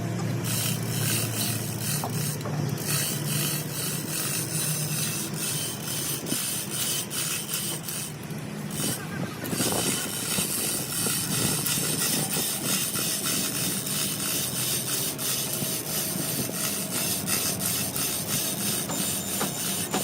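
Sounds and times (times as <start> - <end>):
steady low hum: 0.0 - 20.0
metal scraping and clicking: 0.4 - 20.0.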